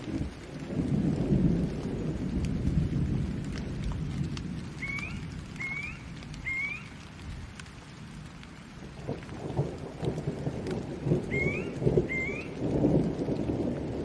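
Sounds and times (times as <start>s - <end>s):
rolling thunder: 0.0s - 7.4s, 8.8s - 14.0s
steady rain: 0.0s - 14.0s.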